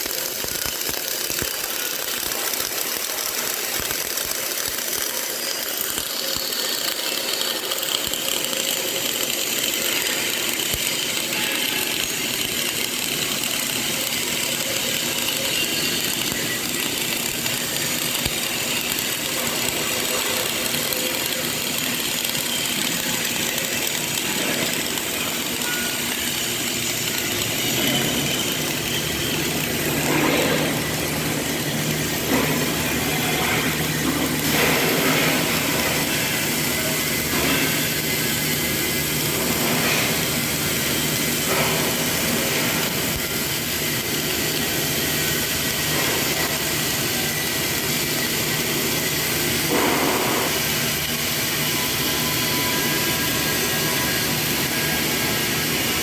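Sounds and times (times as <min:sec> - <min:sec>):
welding arc crackling: 0:00.0 - 0:56.0.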